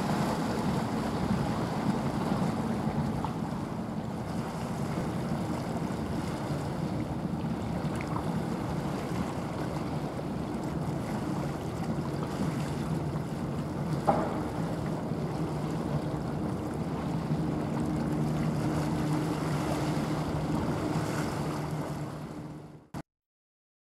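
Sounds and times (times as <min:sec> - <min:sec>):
ship engine drone: 0:00.0 - 0:23.0.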